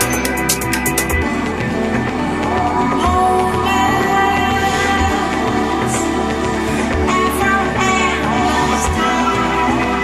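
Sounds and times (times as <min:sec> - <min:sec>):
progressive house music: 0:00.0 - 0:10.0.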